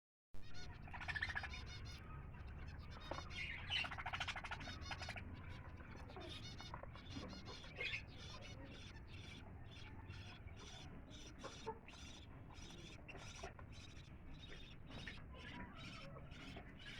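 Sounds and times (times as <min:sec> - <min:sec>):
parrots chirping: 0:00.4 - 0:16.9.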